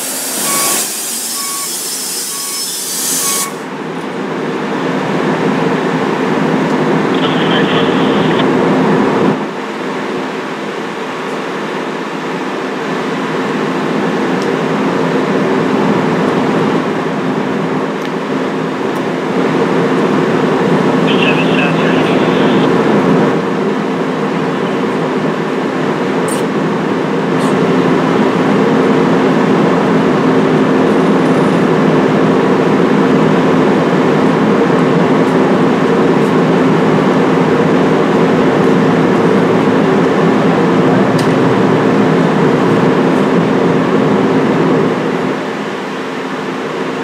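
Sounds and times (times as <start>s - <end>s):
train loud steady hum: 0.0s - 47.0s.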